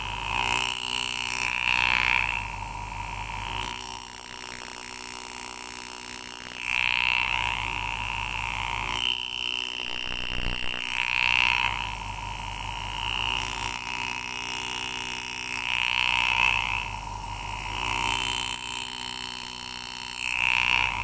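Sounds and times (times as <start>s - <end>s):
engraving handpiece buzzing: 0.0s - 21.0s.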